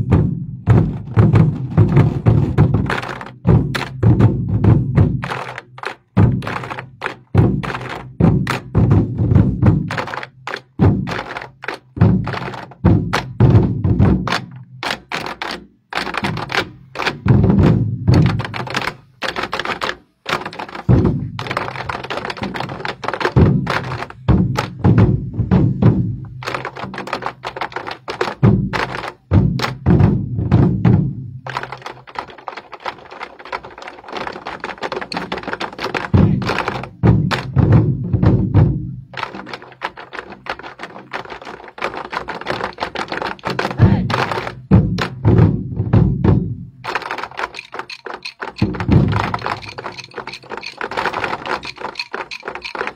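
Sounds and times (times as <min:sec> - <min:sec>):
large drums beaten rapidly: 0:00.0 - 0:32.3, 0:34.1 - 0:52.9.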